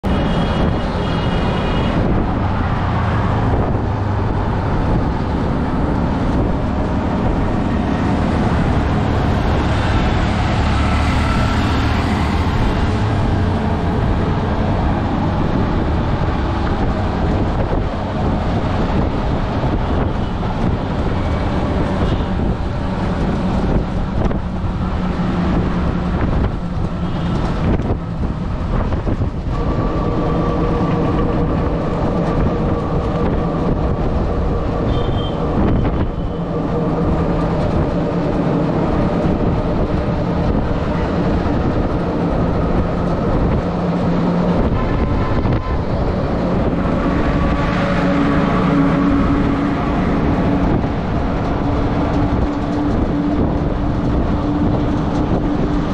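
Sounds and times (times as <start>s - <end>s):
passing traffic rumble: 0.0s - 55.9s
road and wind noise: 0.0s - 55.9s.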